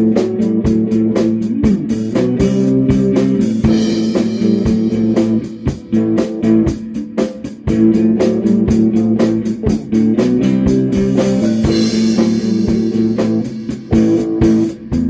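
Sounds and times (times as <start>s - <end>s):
live blues-rock band: 0.0s - 15.0s.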